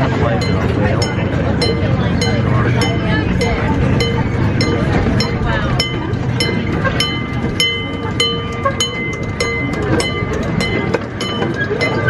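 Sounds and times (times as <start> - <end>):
miniature train rolling on track: 0.0 - 12.0
crossing signal bell ringing: 0.1 - 12.0.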